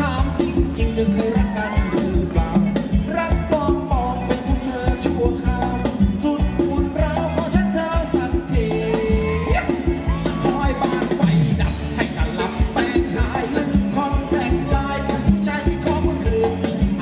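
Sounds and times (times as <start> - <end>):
drum kit beat: 0.0 - 17.0
live dance band music: 0.0 - 17.0.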